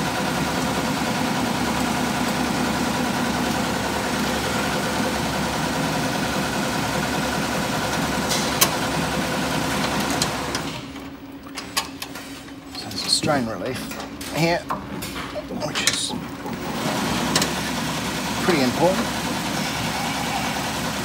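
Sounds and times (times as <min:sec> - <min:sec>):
machinery humming: 0:00.0 - 0:21.0.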